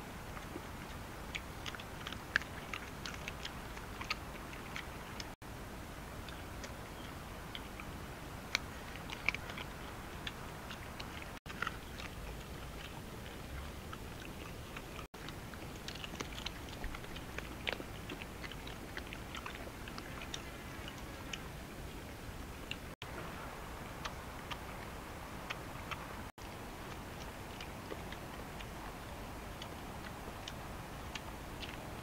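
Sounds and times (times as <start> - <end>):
dogs chewing and crunching: 0.3 - 5.4, 6.2 - 23.2, 23.9 - 32.0.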